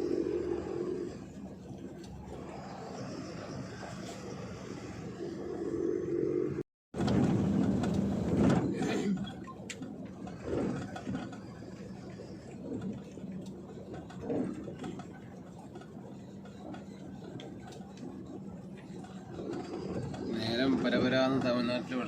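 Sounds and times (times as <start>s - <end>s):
truck engine humming: 0.0s - 22.0s.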